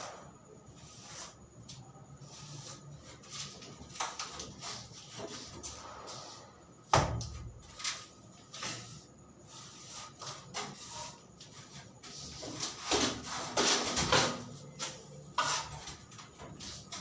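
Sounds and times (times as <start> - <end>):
knocks and scrapes of construction work: 0.0 - 17.0.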